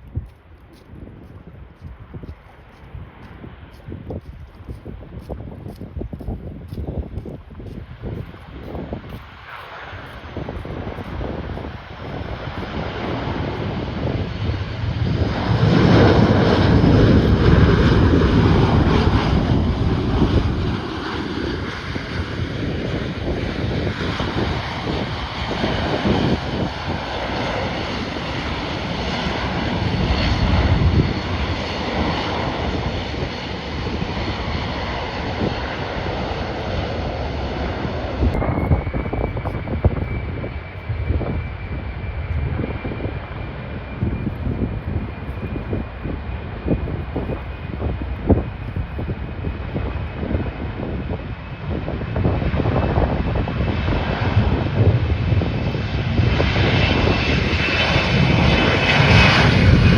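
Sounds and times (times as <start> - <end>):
airliner engines passing: 0.0 - 59.9
high-pitched turbine whine: 3.4 - 59.9.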